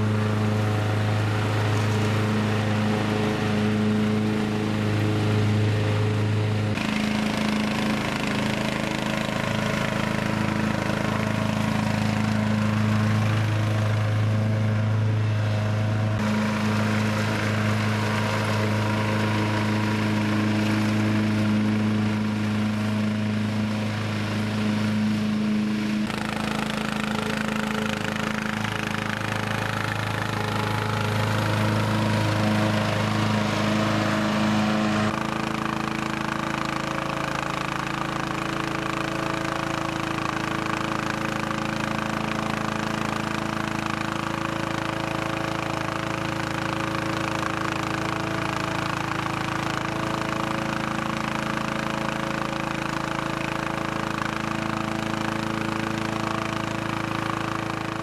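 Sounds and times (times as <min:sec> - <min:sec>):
lawn tractor engine mowing: 0:00.0 - 0:58.0.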